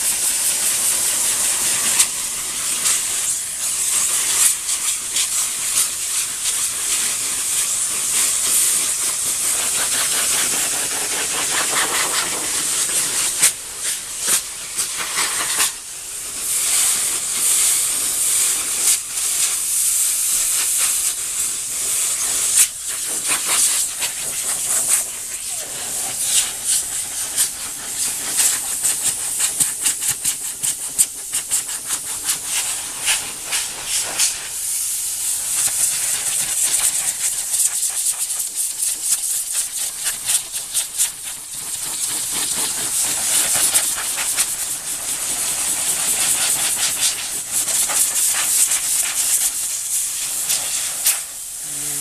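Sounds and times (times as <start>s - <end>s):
compressed air hissing from nozzle: 0.0s - 52.0s.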